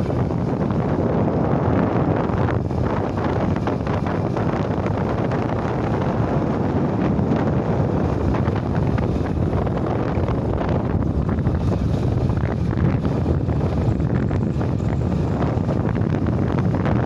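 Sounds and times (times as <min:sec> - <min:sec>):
vehicle road rumble: 0:00.0 - 0:17.0
wind buffeting microphone: 0:00.0 - 0:17.0.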